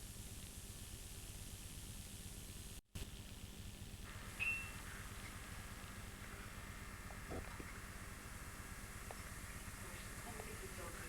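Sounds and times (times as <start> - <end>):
faint recording hiss: 0.0 - 11.0.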